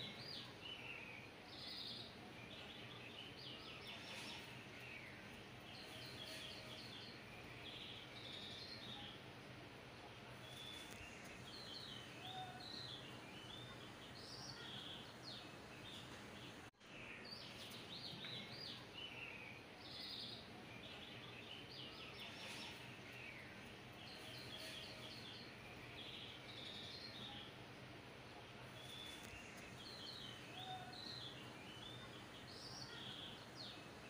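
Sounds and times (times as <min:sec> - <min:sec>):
low steady hiss: 0:00.0 - 0:34.0
small birds chirping: 0:00.0 - 0:34.0.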